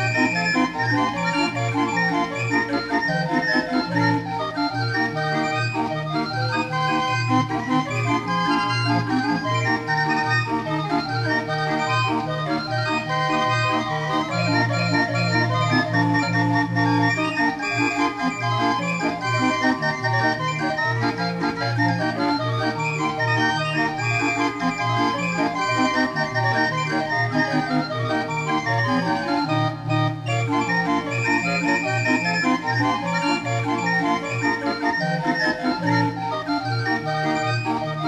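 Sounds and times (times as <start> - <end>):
barrel organ playing: 0.0 - 38.0.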